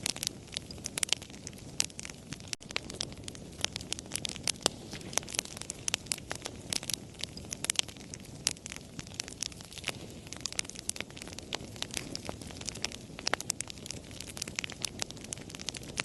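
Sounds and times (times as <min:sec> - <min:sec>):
campfire crackling and popping: 0:00.0 - 0:16.0
low rush of flames: 0:00.0 - 0:16.0.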